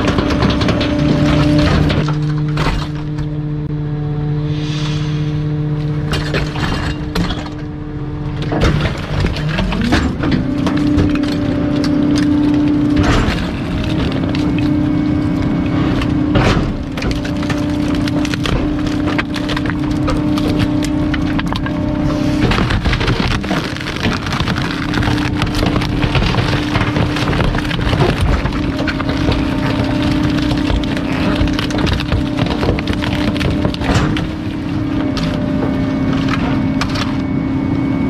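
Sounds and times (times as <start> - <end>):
wood cracking and breaking: 0.0 - 3.4, 8.4 - 37.3
hydraulic whine: 0.0 - 38.0.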